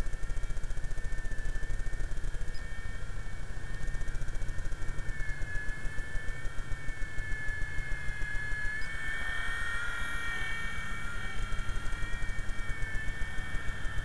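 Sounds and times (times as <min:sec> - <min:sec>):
low rapid pulsing: 0:00.0 - 0:14.0
model helicopter whine: 0:00.0 - 0:14.0.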